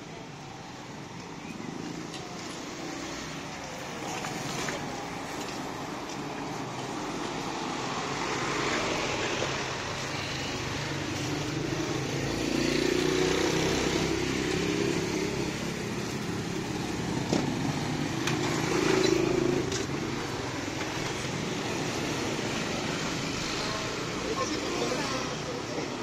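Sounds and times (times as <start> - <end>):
motorcycles passing: 0.2 - 26.0.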